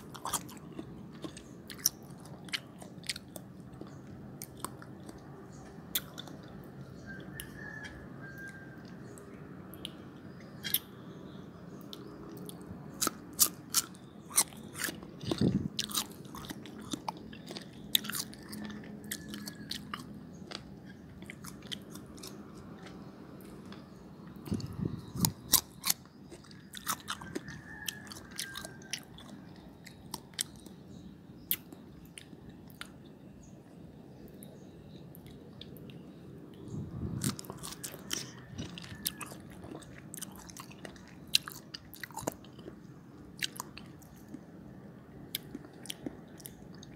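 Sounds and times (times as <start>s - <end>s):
crunching raw mango: 0.0s - 9.1s, 9.8s - 11.0s, 11.9s - 33.0s, 34.4s - 44.5s.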